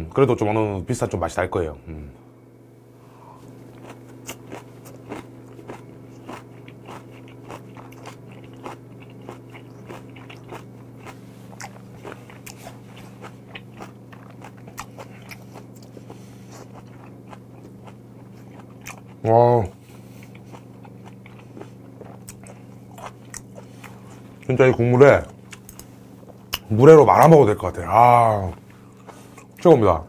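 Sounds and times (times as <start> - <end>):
crunchy chewing: 3.3 - 27.3, 28.0 - 29.6.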